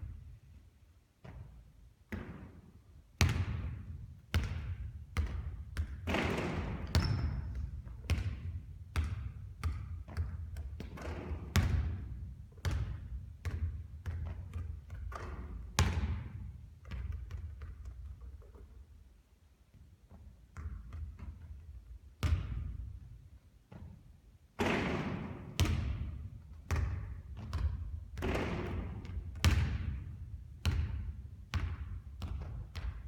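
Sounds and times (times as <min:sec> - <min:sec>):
basketball bouncing with echo: 0:01.2 - 0:18.7, 0:20.1 - 0:24.0, 0:24.6 - 0:33.0.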